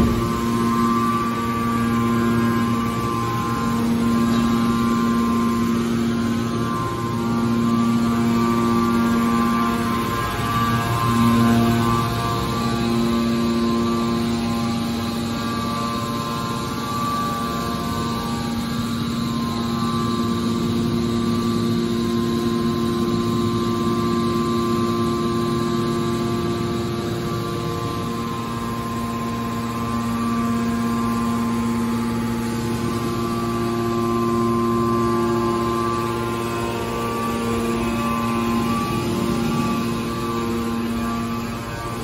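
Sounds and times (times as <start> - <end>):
hydraulic pump motor humming: 0.0 - 42.0.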